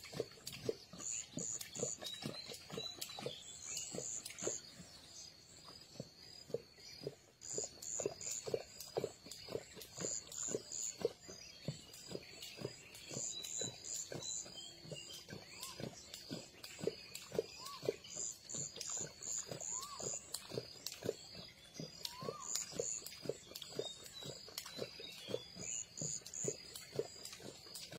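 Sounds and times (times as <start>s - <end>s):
lion lapping water: 0.0s - 27.9s.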